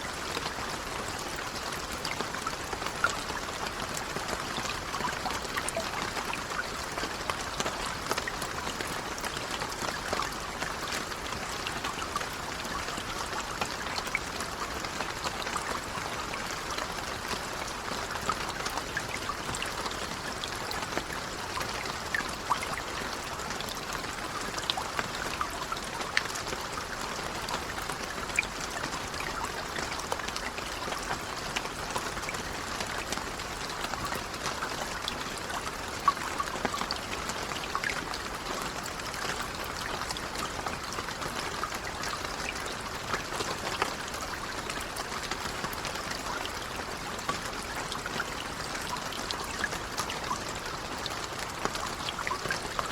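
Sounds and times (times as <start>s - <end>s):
gentle rain falling: 0.0s - 52.9s.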